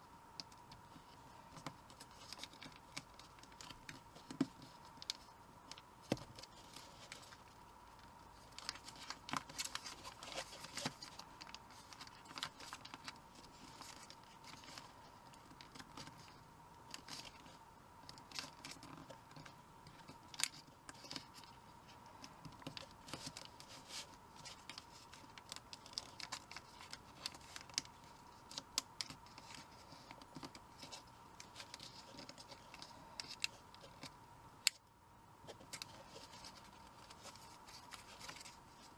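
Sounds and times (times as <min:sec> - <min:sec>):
paper crinkling and rustling: 0:00.4 - 0:34.2, 0:35.4 - 0:38.9.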